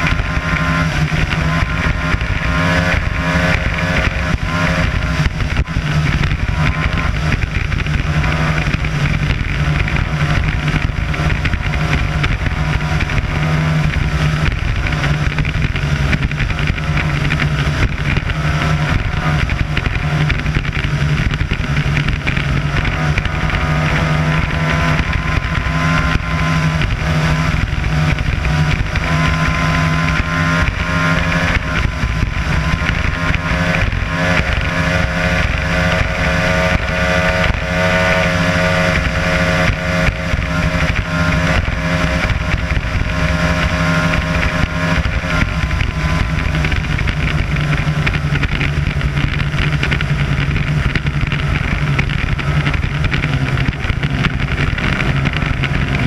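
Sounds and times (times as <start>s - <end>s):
hull and water noise: 0.0s - 56.0s
outboard motor running: 0.0s - 56.0s
wind noise: 0.0s - 56.0s.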